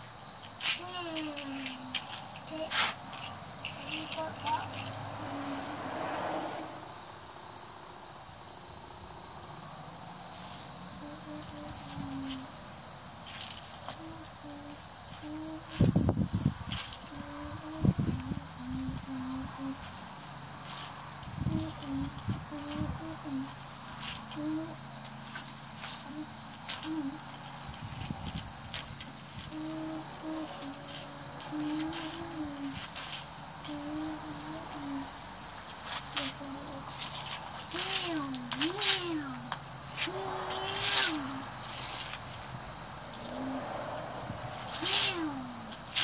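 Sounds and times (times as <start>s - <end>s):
insects chirping: 0.0s - 46.0s.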